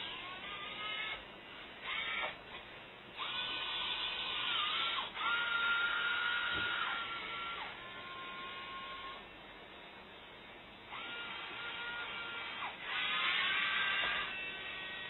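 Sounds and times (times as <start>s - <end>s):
servo motors whining: 0.0s - 1.2s, 1.8s - 2.6s, 3.2s - 9.3s, 10.9s - 15.0s.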